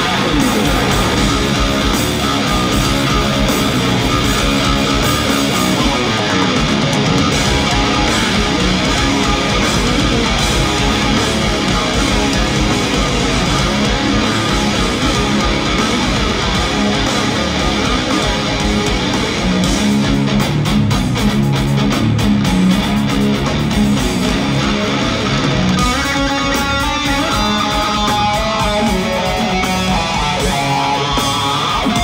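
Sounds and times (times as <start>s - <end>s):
drums: 0.0s - 32.0s
electric guitar: 0.0s - 32.0s
live progressive metal music: 0.0s - 32.0s.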